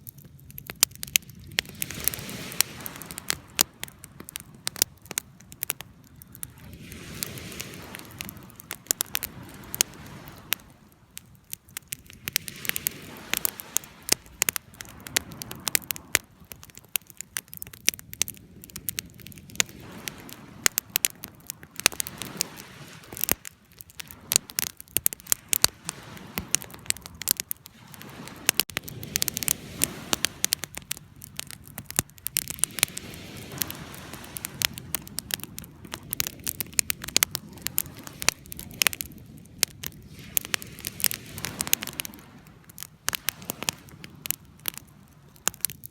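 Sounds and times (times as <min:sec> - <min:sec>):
wood fire crackling and popping: 0:00.0 - 0:45.9
hiss of flames: 0:01.2 - 0:45.9.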